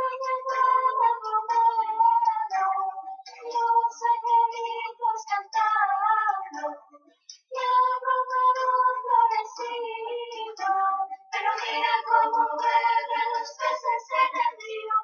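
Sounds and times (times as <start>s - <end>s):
song with high singing voice: 0.0s - 15.0s.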